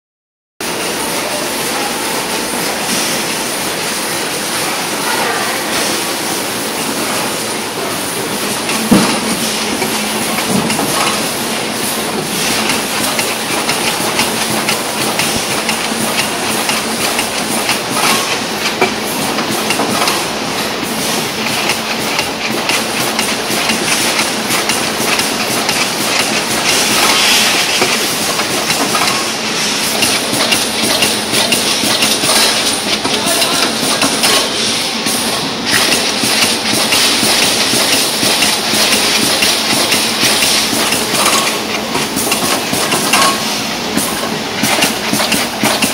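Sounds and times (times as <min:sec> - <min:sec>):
conveyor belts running: 0:00.6 - 0:45.9
packing machine clattering: 0:07.0 - 0:45.9.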